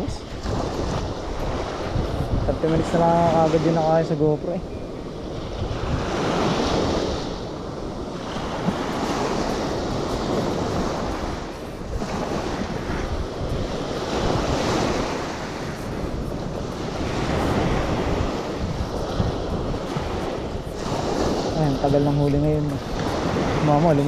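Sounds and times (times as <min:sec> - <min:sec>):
sea waves washing onto shore: 0:00.0 - 0:24.0
wind buffeting microphone: 0:00.0 - 0:24.0.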